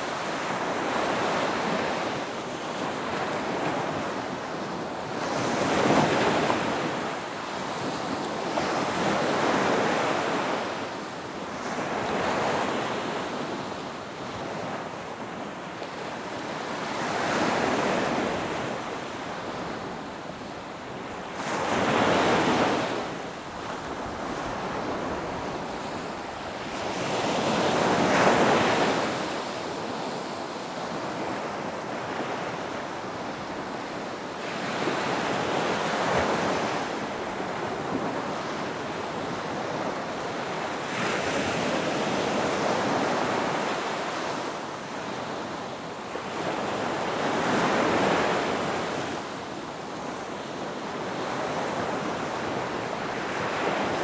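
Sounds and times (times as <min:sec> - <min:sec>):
ocean waves crashing on beach: 0:00.0 - 0:54.0.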